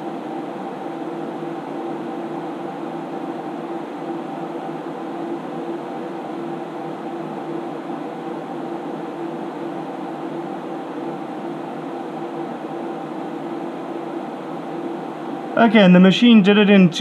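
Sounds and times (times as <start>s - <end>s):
computer cooling fans whirring: 0.0s - 17.0s.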